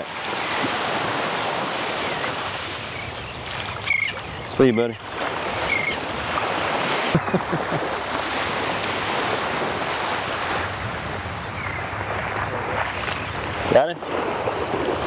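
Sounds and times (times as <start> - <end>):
surf waves washing onto sand: 0.0 - 15.0.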